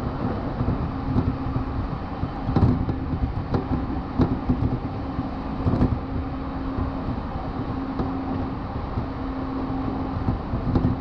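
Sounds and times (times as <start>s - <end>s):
train rumbling on track: 0.0s - 11.0s
wheels clunking over rail joints: 0.0s - 11.0s.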